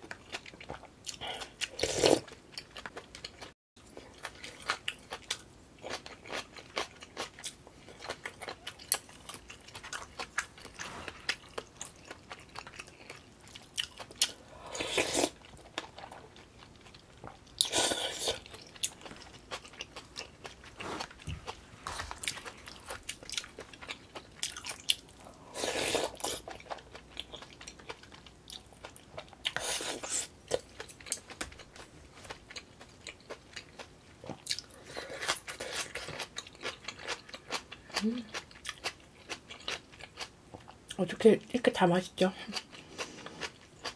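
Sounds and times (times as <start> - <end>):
wet chewing and biting: 0.0 - 40.8.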